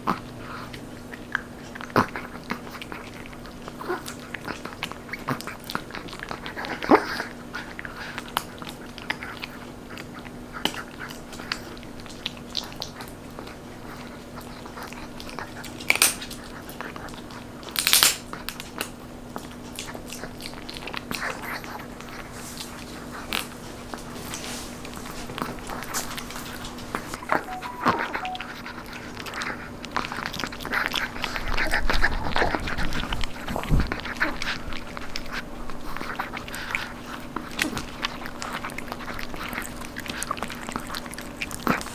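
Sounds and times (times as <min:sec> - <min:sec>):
dog crunching a bone treat: 0:00.0 - 0:27.2, 0:28.8 - 0:41.9.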